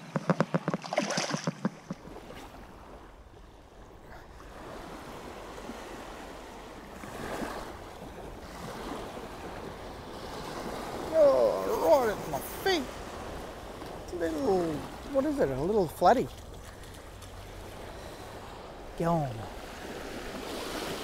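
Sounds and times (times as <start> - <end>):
small waves washing onto shore: 0.0 - 21.0.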